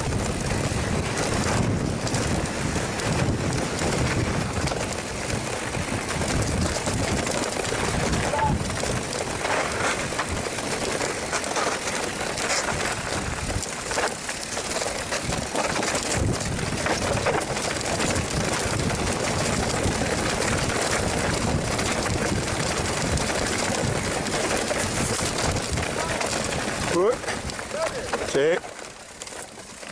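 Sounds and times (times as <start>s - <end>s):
bike knocks and rattles: 0.0s - 29.9s
tyre and wind noise: 0.0s - 29.9s.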